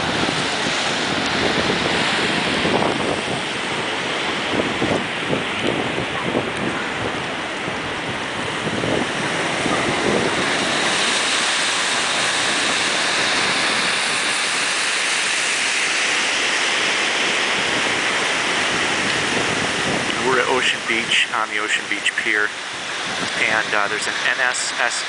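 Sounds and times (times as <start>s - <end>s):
wind on microphone: 0.0s - 21.3s, 22.3s - 24.2s
ocean surf breaking: 0.0s - 25.0s.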